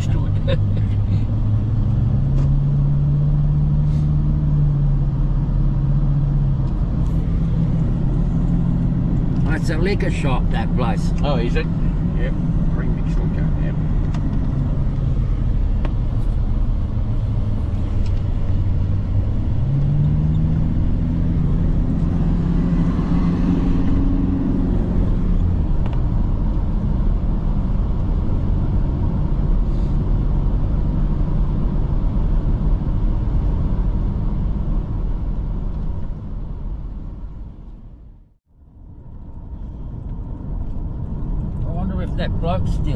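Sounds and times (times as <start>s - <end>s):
car engine accelerating: 0.0s - 38.2s
road noise inside car: 0.0s - 42.9s.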